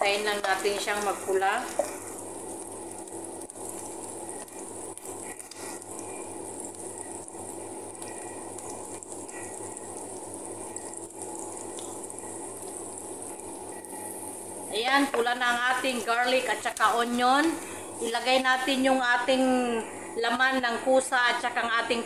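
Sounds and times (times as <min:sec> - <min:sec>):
faint crackles: 0:00.0 - 0:21.9
garlic and onion sizzling in oil: 0:00.0 - 0:22.0.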